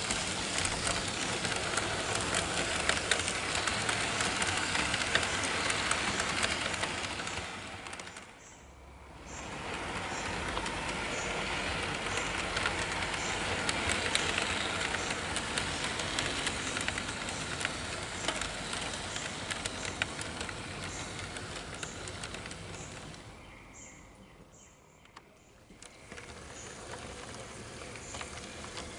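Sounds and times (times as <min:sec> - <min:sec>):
model train rolling on track: 0:00.0 - 0:23.8, 0:25.1 - 0:28.9.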